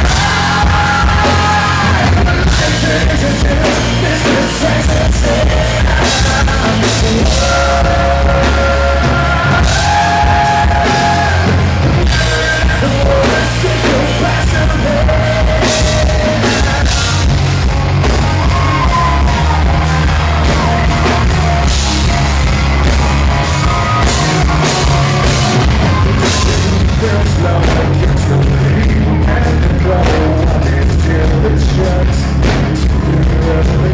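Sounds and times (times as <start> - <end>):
man singing: 0.0 - 21.8, 23.9 - 33.9
live rock band playing: 0.0 - 33.9.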